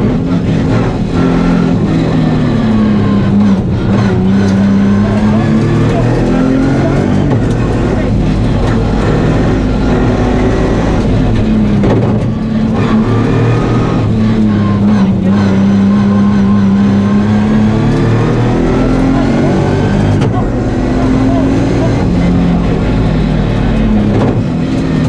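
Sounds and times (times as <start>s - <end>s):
car engine at racing revs: 0.0s - 25.0s.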